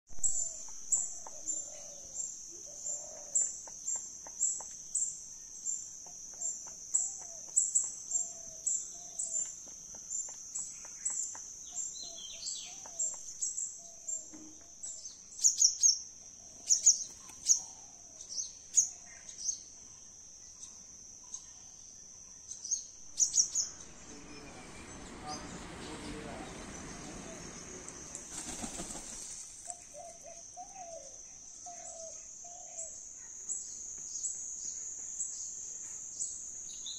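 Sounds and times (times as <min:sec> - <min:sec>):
birds chirping: 0:00.2 - 0:36.9.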